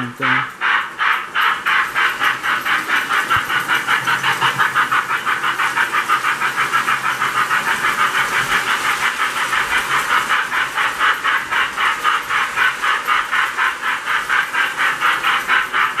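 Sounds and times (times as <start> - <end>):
model steam locomotive chuffing: 0.0 - 16.0.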